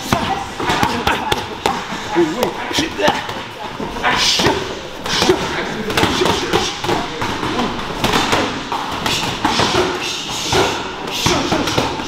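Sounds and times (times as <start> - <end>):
voices in background: 0.0 - 12.0.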